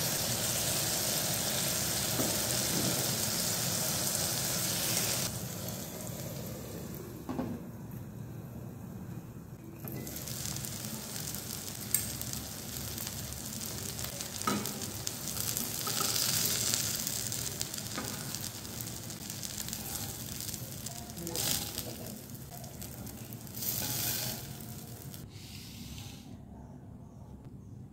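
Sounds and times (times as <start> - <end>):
eggplant sizzling in hot oil: 0.0 - 7.1, 9.9 - 25.3.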